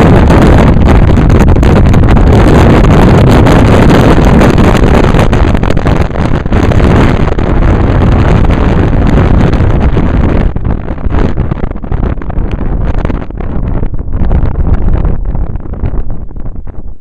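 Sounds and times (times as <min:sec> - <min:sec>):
car road noise: 0:00.0 - 0:14.0
wind buffeting microphone: 0:00.0 - 0:17.0.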